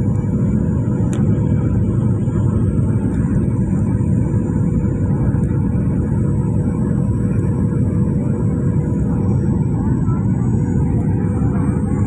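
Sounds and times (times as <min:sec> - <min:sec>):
faint steady hum: 0:00.0 - 0:12.0
jet engine cabin rumble: 0:00.0 - 0:12.0.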